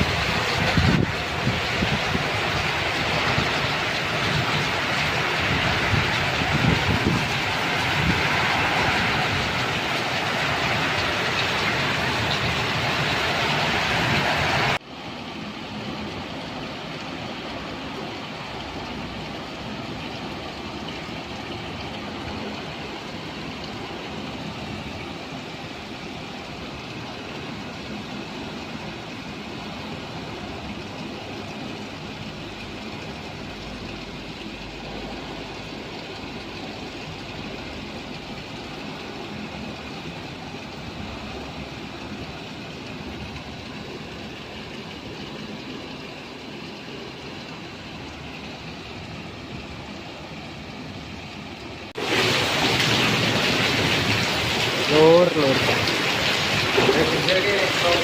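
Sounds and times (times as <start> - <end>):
strong storm wind: 0.0 - 31.4, 38.4 - 58.0
heavy rain: 0.0 - 58.0.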